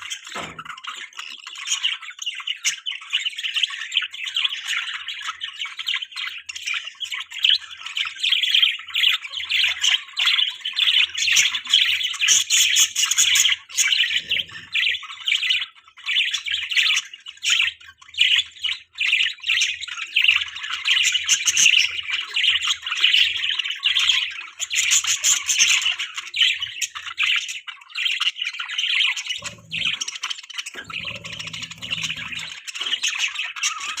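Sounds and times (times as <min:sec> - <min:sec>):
budgerigars chattering: 0:06.3 - 0:34.0.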